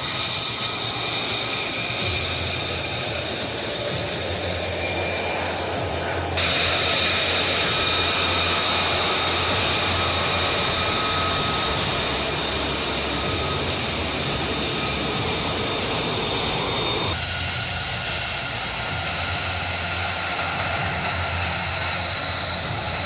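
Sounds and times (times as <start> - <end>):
jet engine whining roar: 0.0 - 23.0.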